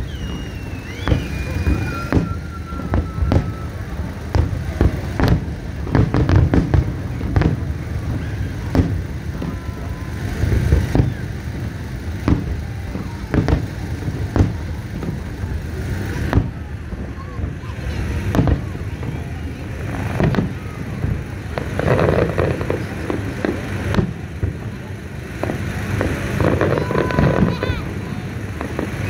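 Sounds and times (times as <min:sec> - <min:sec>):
firework shells bursting: 0:00.0 - 0:29.0.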